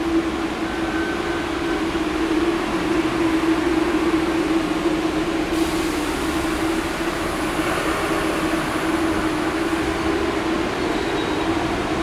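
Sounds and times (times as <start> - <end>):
subway train hum: 0.0 - 12.0
train rumbling: 0.0 - 12.0.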